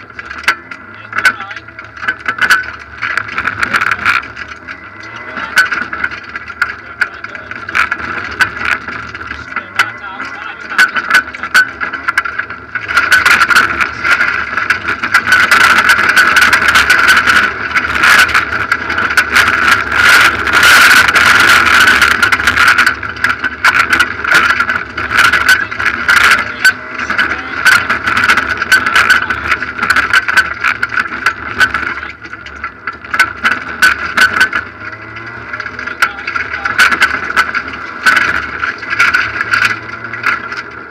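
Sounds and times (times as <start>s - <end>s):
gravel pinging against car underside: 0.0s - 40.9s
rally car engine at high revs: 0.0s - 40.9s.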